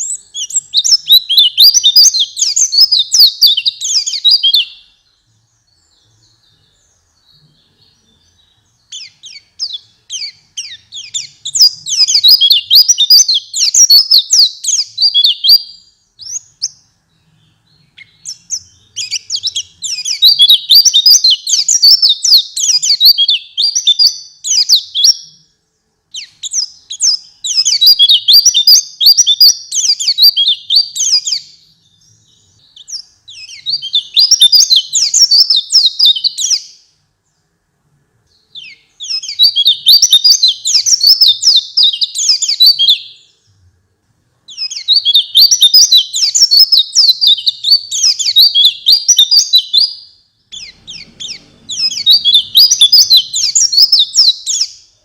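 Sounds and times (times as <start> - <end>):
bird twittering song: 0.0 - 37.6, 38.2 - 43.7, 44.5 - 55.0.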